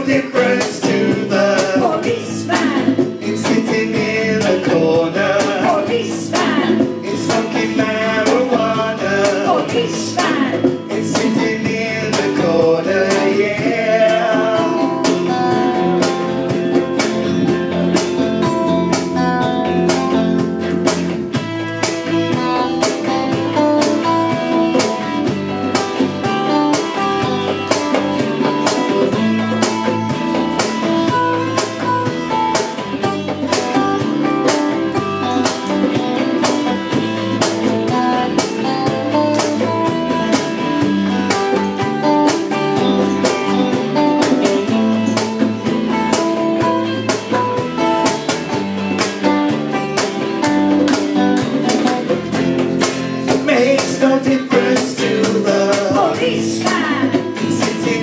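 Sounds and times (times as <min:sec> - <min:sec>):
bass guitar: 0:00.0 - 0:58.0
electric guitars: 0:00.0 - 0:58.0
steady drum beat: 0:00.0 - 0:58.0.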